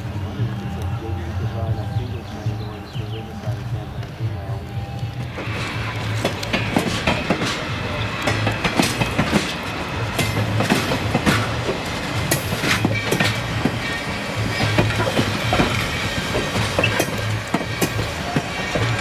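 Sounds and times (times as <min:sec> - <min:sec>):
railroad cars clacking over track: 0:00.0 - 0:19.0.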